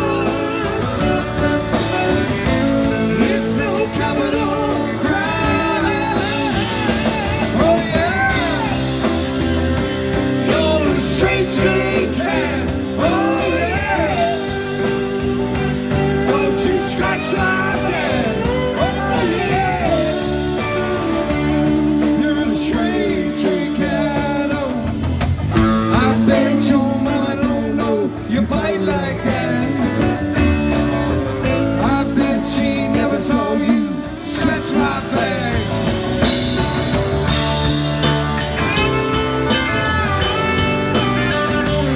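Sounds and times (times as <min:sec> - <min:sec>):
bass guitar: 0:00.0 - 0:41.9
drum kit: 0:00.0 - 0:41.9
electric guitars: 0:00.0 - 0:41.9.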